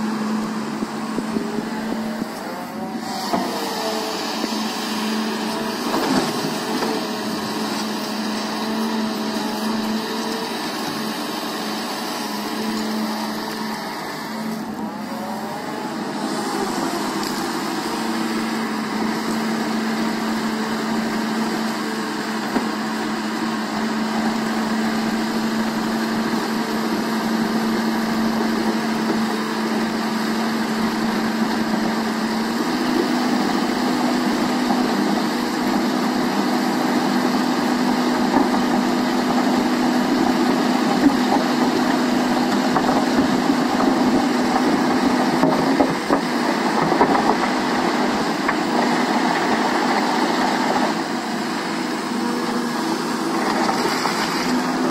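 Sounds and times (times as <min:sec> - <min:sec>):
excavator engine and hydraulics: 0:00.0 - 0:54.9.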